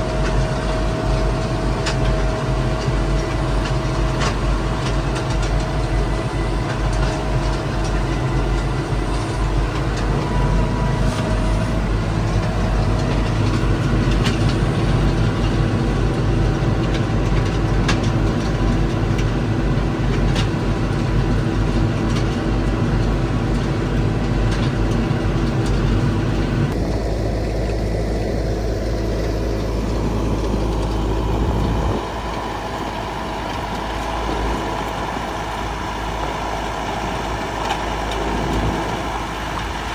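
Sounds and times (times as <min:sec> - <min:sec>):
stone crushing machine engine drone: 0:00.0 - 0:39.9.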